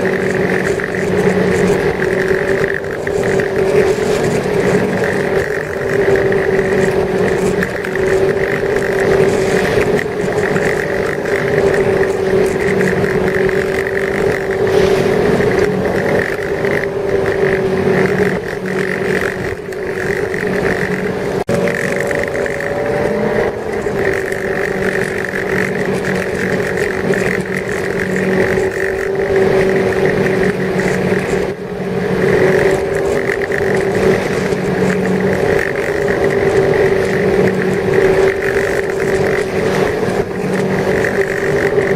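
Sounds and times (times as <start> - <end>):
motorboat engine droning: 0.0 - 41.9.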